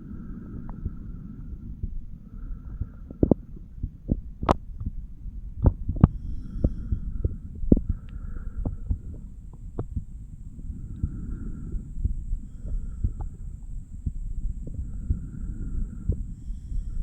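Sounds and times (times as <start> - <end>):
heartbeat through stethoscope: 0.0 - 17.0
low hum: 0.0 - 17.0.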